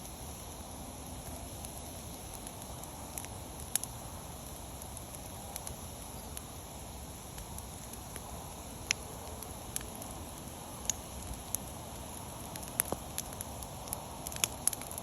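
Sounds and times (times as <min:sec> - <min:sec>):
fire crackles and pops: 0:00.0 - 0:15.0
wood fire hissing: 0:00.0 - 0:15.0.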